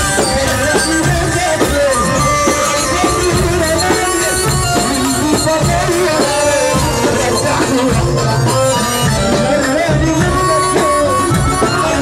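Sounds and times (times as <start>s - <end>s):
band melody line: 0.0s - 12.0s
hand drum beats: 0.0s - 12.0s.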